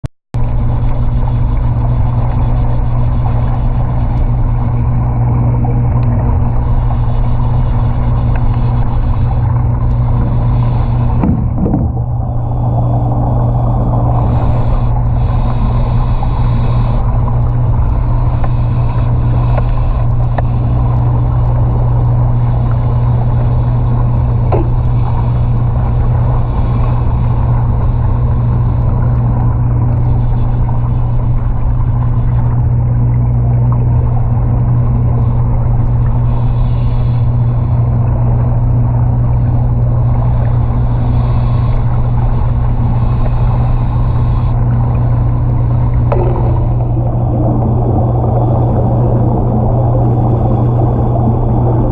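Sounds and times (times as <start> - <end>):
low mechanical drone: 0.4 - 51.9.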